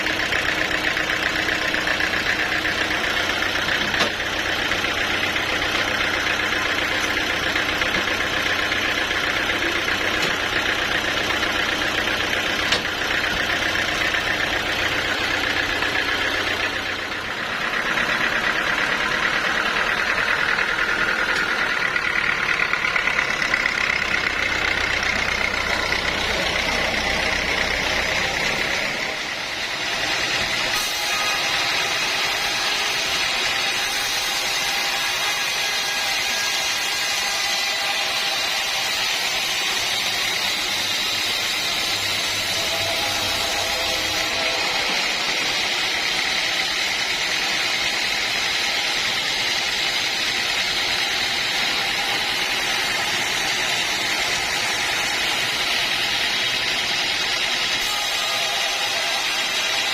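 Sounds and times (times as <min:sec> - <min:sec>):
sawmill saw whining through timber: 0:00.0 - 0:59.9.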